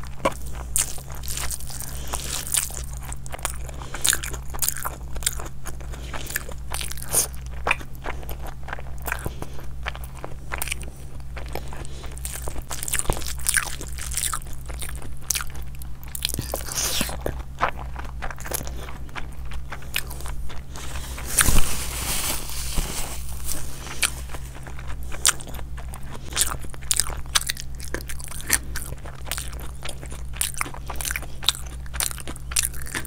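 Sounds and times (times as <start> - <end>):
crunching and chewing food: 0.0 - 33.0
steady low hum: 0.0 - 33.0.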